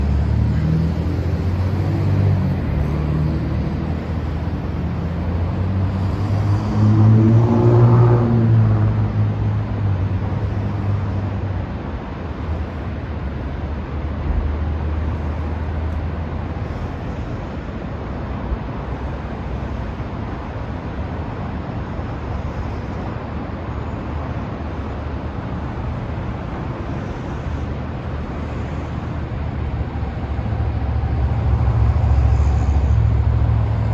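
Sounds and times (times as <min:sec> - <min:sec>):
vehicle passing: 0:00.0 - 0:17.3, 0:23.8 - 0:33.9
road traffic: 0:00.0 - 0:33.9
waterfall roar: 0:00.0 - 0:33.9.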